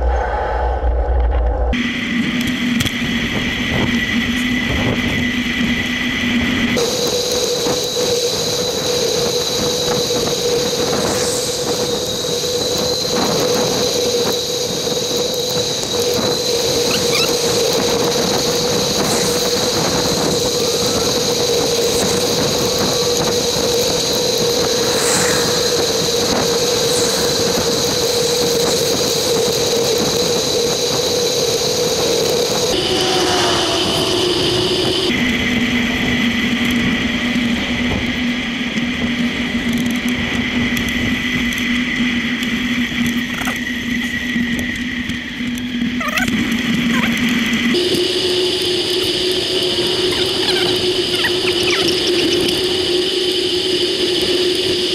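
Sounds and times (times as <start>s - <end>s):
high-pitched hum: 0.0s - 38.7s, 46.2s - 54.9s
bicycle riding noise: 1.4s - 54.9s.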